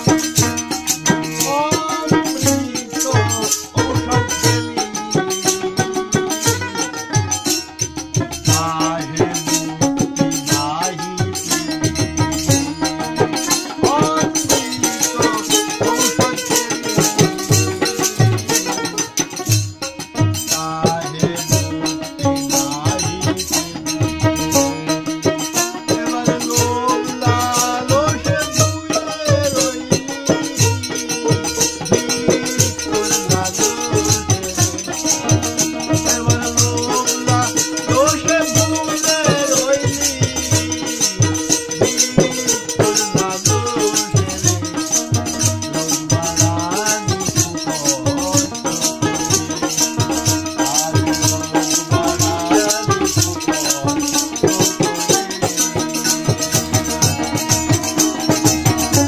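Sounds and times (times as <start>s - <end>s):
shaken rattle rhythm: 0.0s - 59.0s.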